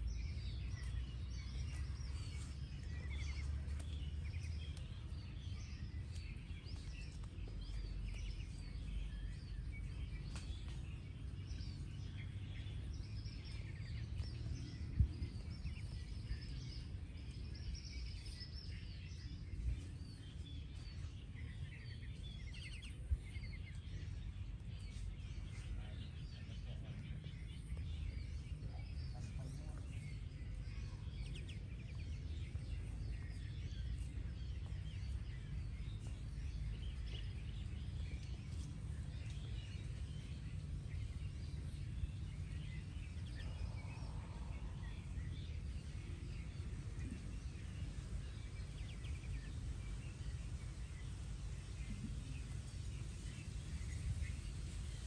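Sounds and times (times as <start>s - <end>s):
birds chirping: 0.0s - 55.0s
low steady rumble: 0.0s - 55.0s.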